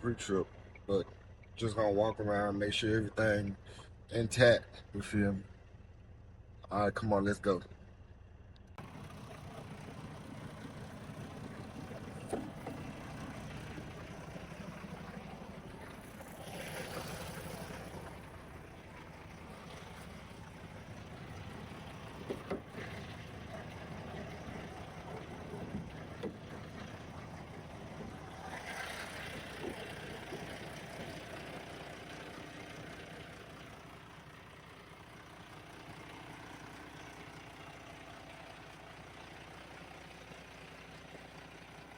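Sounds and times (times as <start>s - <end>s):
truck engine idling: 7.5s - 41.9s.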